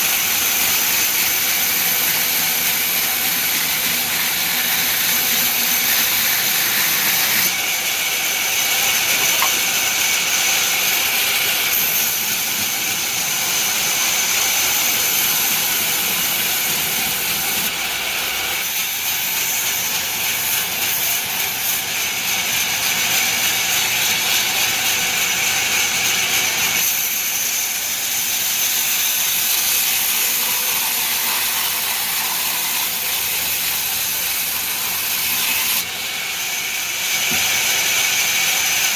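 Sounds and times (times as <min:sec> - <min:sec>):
sawmill saw and machinery: 0:00.0 - 0:38.9.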